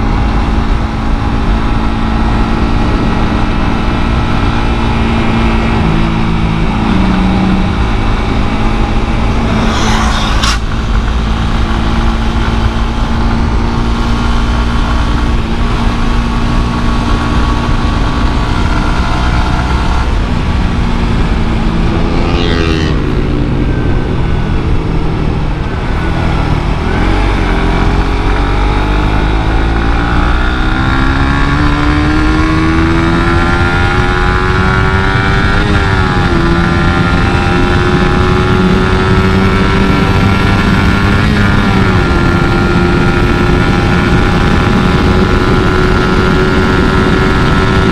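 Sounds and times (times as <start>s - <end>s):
motorcycle engine: 0.0s - 47.9s.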